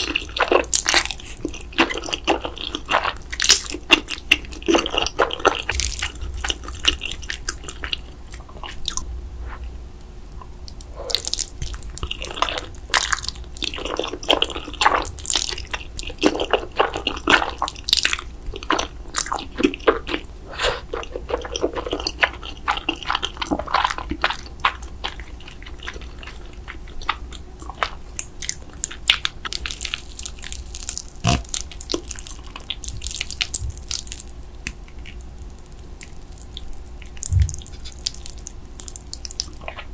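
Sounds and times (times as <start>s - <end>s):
wet chewing and biting: 0.0s - 9.1s, 10.7s - 39.9s.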